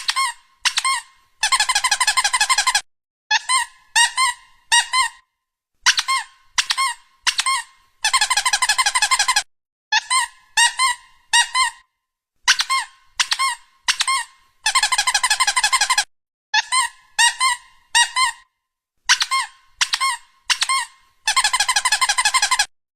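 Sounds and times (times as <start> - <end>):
squeak toy squeaking: 0.0 - 22.7.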